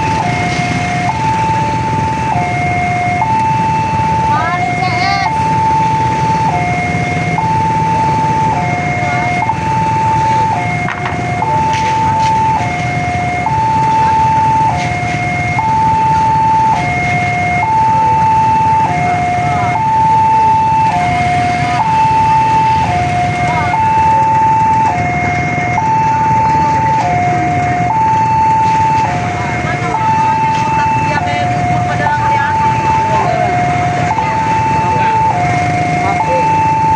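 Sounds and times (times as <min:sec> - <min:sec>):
street traffic rumble: 0:00.0 - 0:36.9
two-tone crossing alarm: 0:00.0 - 0:36.9.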